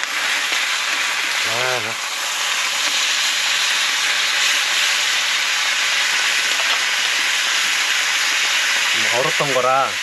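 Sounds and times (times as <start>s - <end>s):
steak sizzling in frying pan: 0.0s - 10.0s.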